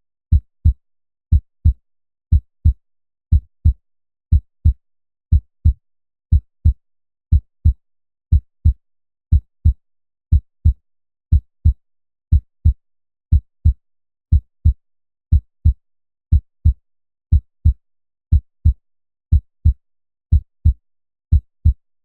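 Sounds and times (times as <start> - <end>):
heartbeat thumps: 0.3 - 12.8, 13.6 - 14.8, 15.6 - 16.8, 17.6 - 21.8.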